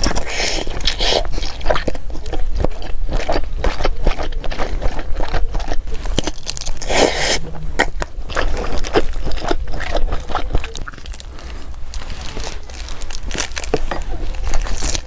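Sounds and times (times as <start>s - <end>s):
person chewing crunchy food: 0.0s - 15.0s.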